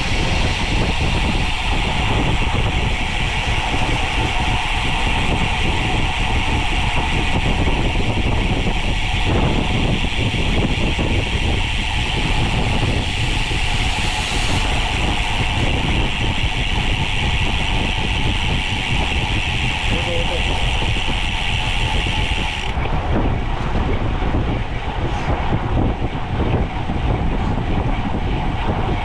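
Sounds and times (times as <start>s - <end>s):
bicycle road and wind noise: 0.0s - 29.0s.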